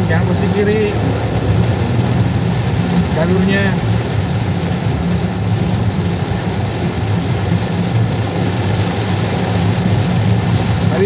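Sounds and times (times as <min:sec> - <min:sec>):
engine and tyre hum: 0:00.0 - 0:11.0
heavy rain on car roof: 0:00.0 - 0:11.0.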